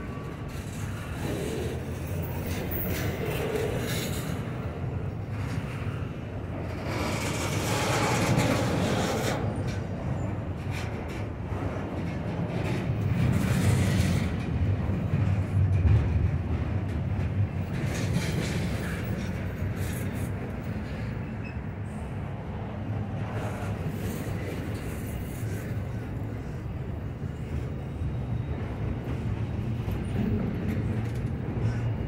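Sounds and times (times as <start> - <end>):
freight train cars rumbling past: 0.0 - 32.0.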